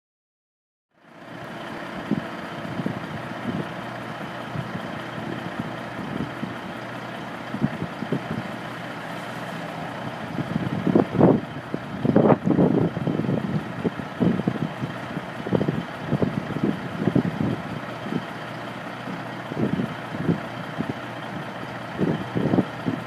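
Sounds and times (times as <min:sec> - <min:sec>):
diesel truck engine idling: 0:00.9 - 0:23.0
wind buffeting microphone: 0:01.4 - 0:23.0.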